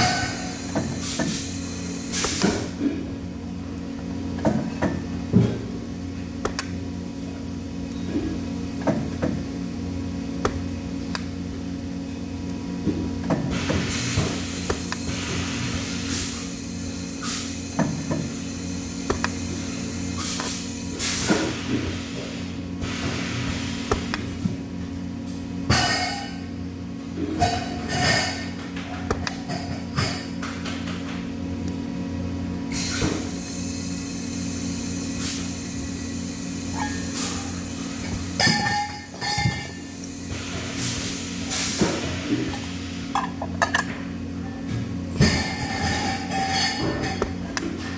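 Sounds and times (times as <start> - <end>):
electrical machine hum: 0.0 - 47.9.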